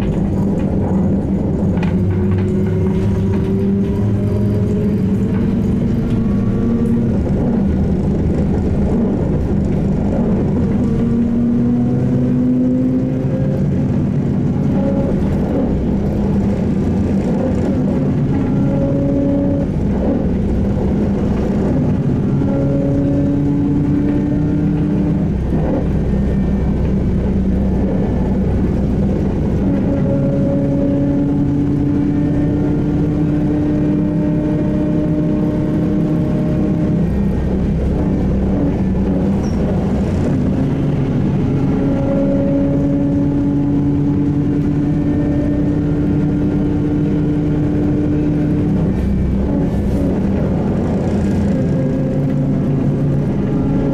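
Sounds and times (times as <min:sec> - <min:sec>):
droning tone: 0:00.0 - 0:53.9
trolleybus rumble: 0:00.0 - 0:53.9.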